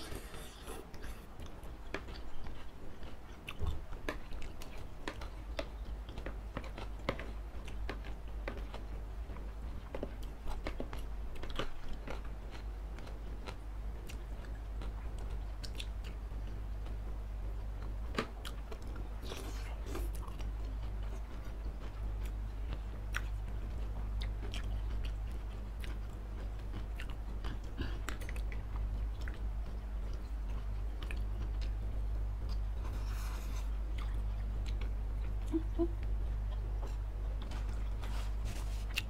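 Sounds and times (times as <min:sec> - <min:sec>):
close chewing and biting: 0:00.0 - 0:16.6, 0:17.8 - 0:31.8, 0:32.4 - 0:39.0
steady low hum: 0:00.0 - 0:39.0.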